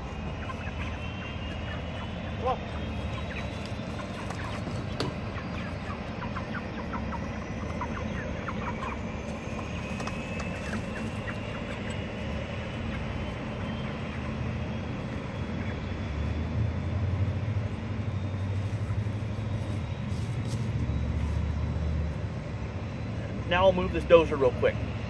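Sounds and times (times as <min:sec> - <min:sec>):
chickens clucking and peeping: 0:00.0 - 0:24.8.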